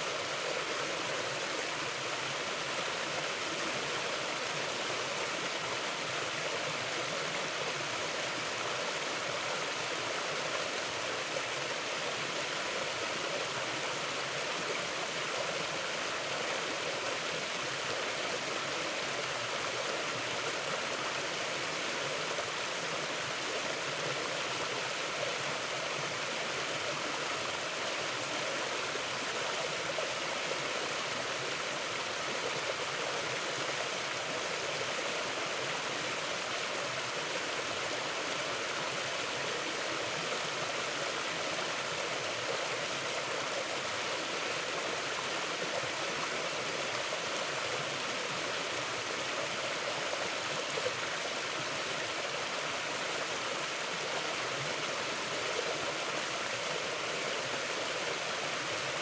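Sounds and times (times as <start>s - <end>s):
river flowing over rocks: 0.0s - 59.0s.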